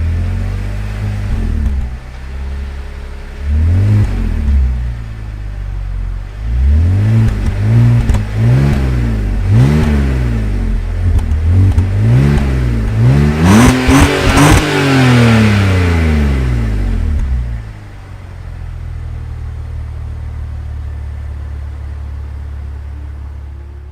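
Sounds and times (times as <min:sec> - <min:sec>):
car engine idling: 0:00.0 - 0:23.9
car engine revving: 0:00.0 - 0:23.9.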